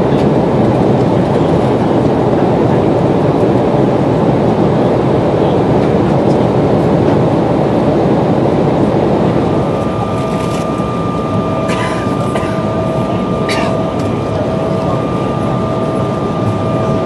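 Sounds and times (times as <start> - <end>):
jet cabin engine rumble: 0.0 - 17.0.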